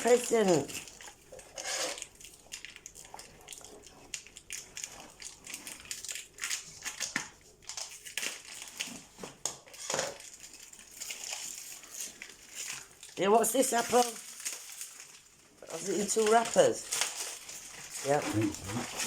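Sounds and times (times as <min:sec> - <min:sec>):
dog tearing wrapping paper: 0:00.0 - 0:19.0.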